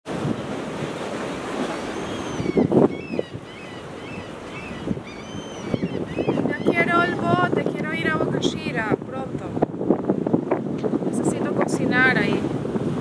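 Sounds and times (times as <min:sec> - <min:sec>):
surf washing against rocks: 0:00.1 - 0:05.8, 0:06.4 - 0:13.0
wind buffeting microphone: 0:00.1 - 0:13.0.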